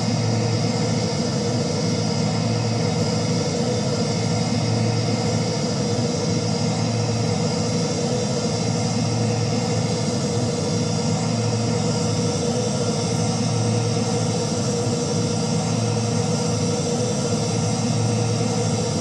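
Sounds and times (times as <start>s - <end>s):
constant low hum: 0.0s - 19.0s
jet engines running: 0.0s - 19.0s.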